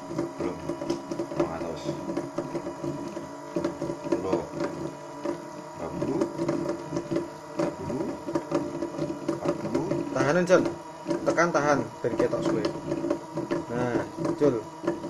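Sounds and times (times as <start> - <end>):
electric motor whirring: 0.0 - 15.0
gear whine: 0.0 - 15.0.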